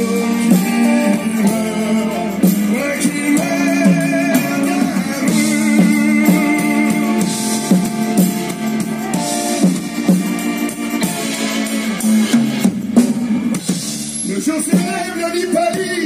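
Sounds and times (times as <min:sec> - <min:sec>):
guitar holding long notes: 0:00.0 - 0:13.6
bass guitar: 0:00.0 - 0:16.0
drums: 0:00.0 - 0:16.0.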